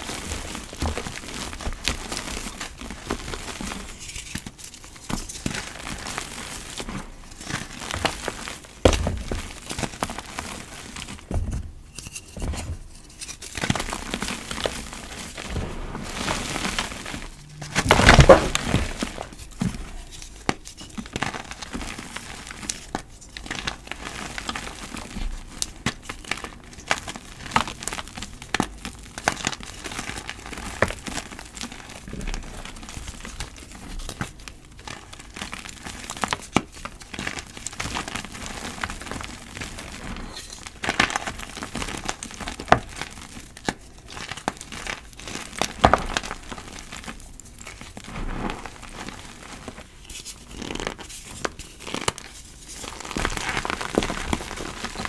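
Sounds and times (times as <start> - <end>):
chalk crunching and cracking: 0.0 - 11.4, 12.0 - 55.0.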